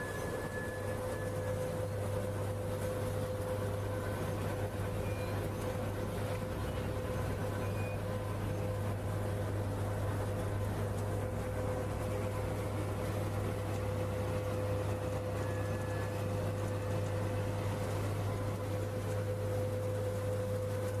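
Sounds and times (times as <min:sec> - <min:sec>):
constant mid-pitched tone: 0:00.0 - 0:21.0
low machine hum: 0:00.0 - 0:21.0.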